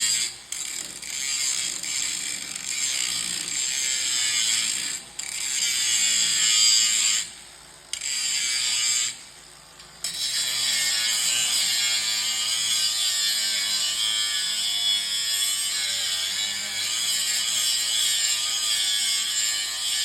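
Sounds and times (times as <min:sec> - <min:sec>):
grinder grinding metal: 0:00.0 - 0:20.0.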